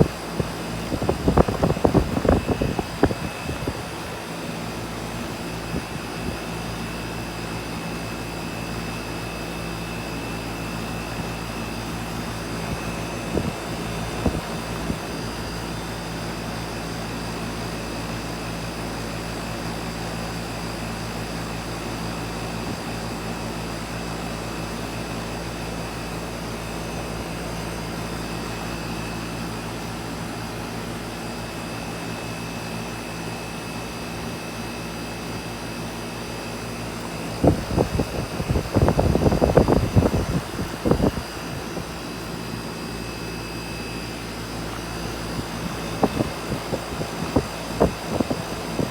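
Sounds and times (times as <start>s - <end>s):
air conditioner running: 0.0s - 48.9s.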